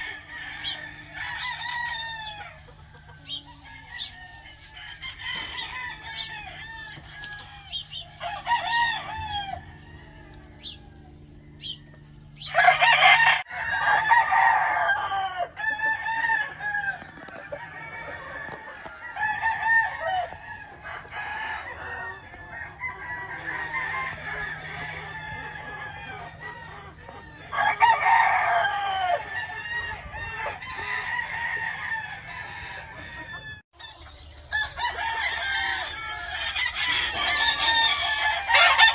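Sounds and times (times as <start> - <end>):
roosters clucking: 0.0 - 38.9
roosters crowing: 0.0 - 38.9.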